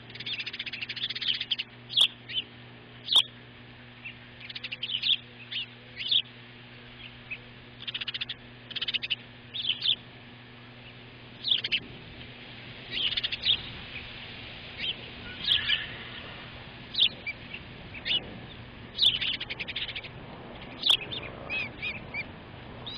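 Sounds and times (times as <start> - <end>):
bird chirping: 0.1 - 3.4, 4.0 - 6.3, 6.9 - 10.0, 10.8 - 11.9, 12.9 - 22.9.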